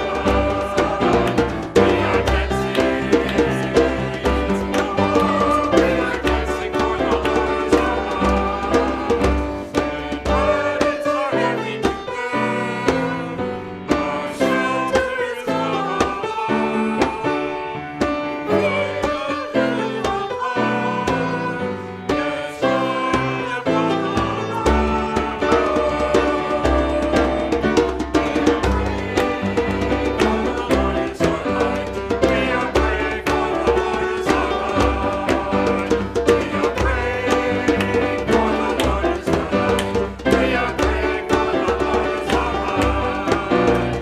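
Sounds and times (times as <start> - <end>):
instrumental church music: 0.0 - 44.0.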